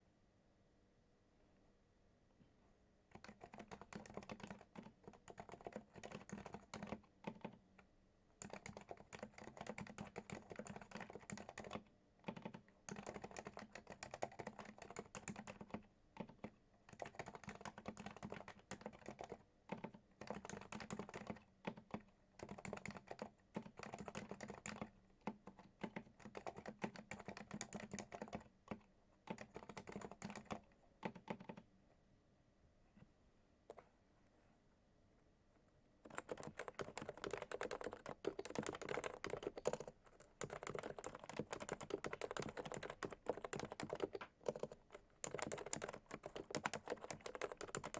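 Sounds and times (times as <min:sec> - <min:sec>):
soft muted keyboard typing: 0:03.1 - 0:31.8, 0:36.0 - 0:47.9.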